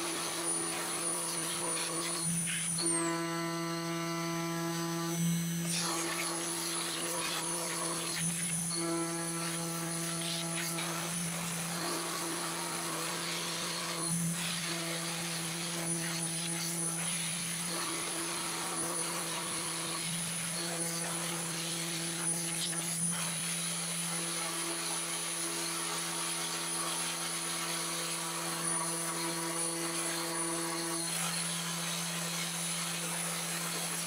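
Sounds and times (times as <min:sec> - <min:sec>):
router spindle humming: 0:00.0 - 0:34.0.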